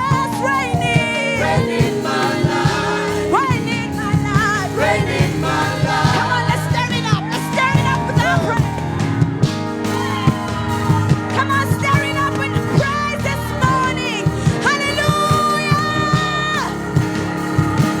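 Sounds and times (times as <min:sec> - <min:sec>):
singing over a steady beat: 0:00.0 - 0:18.0.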